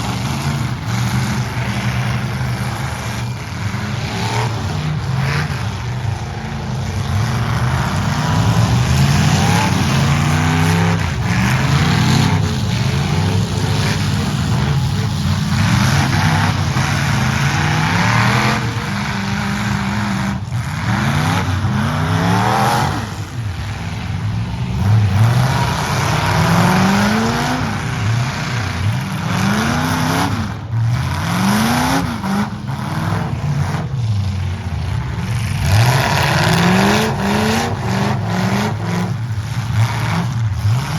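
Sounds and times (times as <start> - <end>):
truck engines revving: 0.0 - 40.9.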